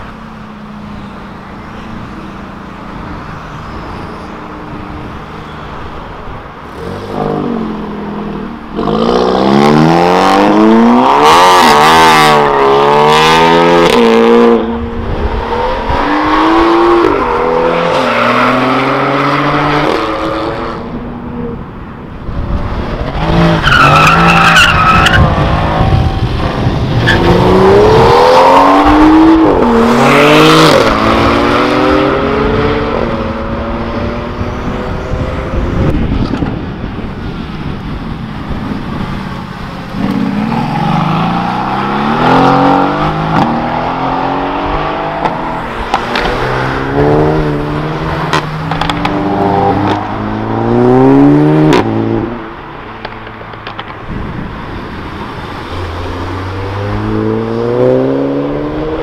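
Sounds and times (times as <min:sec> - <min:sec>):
cars accelerating with loud exhausts: 0:02.8 - 0:59.0
engines revving and shifting gears: 0:06.6 - 0:21.0, 0:22.5 - 0:36.7, 0:38.9 - 0:53.9, 0:55.3 - 0:59.0.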